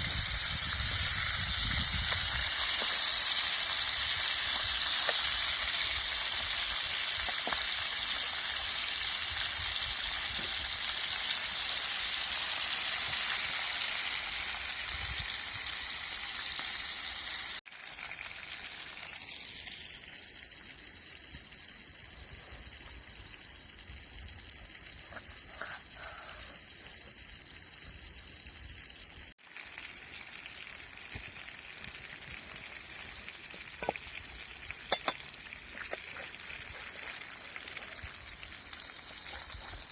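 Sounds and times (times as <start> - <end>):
fish sizzling: 0.0 - 39.9.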